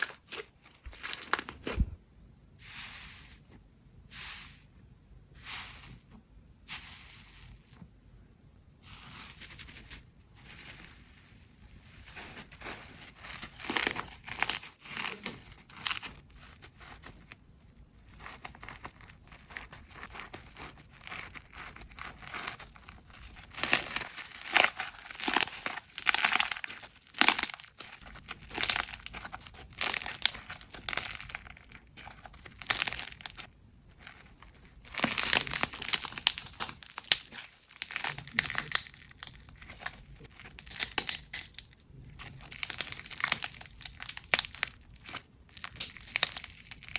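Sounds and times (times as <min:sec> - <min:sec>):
slime crinkling and crackling: 0:00.0 - 0:02.0, 0:09.0 - 0:46.9.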